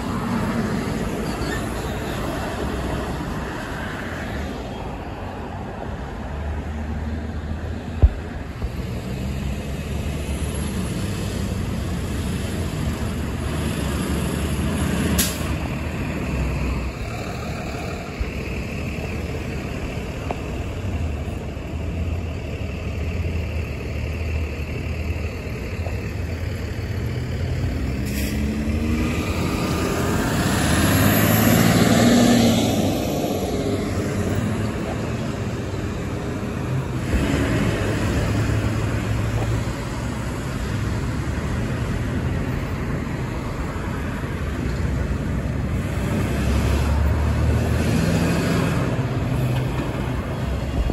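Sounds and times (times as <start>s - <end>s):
cars passing: 0.0s - 50.9s
truck diesel engines rumbling: 0.0s - 50.9s.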